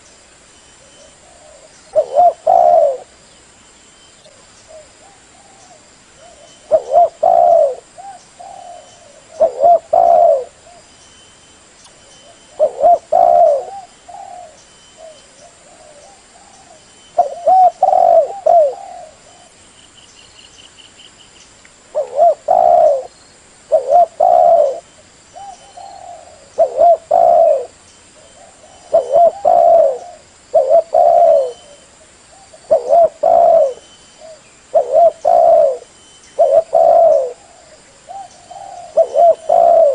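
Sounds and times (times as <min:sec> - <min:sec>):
dove cooing: 0:00.9 - 0:03.1, 0:04.3 - 0:10.9, 0:12.2 - 0:19.6, 0:21.9 - 0:23.1, 0:23.7 - 0:39.9.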